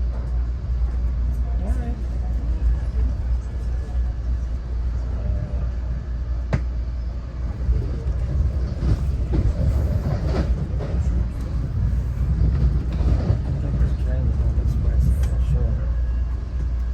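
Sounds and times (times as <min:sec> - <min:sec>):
train rumbling inside car: 0:00.0 - 0:16.9.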